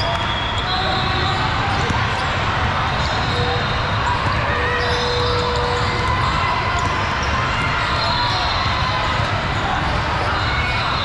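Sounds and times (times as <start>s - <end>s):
din of many voices: 0.0s - 11.0s.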